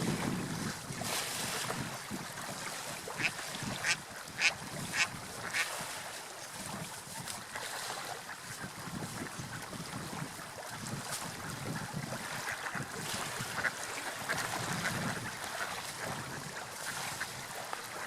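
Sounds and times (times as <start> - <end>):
surf washing: 0.0 - 18.0
wind: 0.0 - 18.0.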